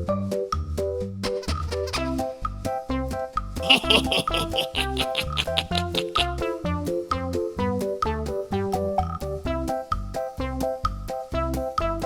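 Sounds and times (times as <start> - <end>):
upbeat bouncy music: 0.0 - 12.0.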